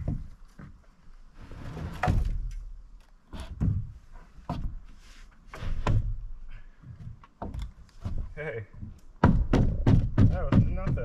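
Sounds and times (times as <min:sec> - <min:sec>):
heavy wooden thumps: 0:00.0 - 0:00.8, 0:01.9 - 0:04.9, 0:05.5 - 0:11.0.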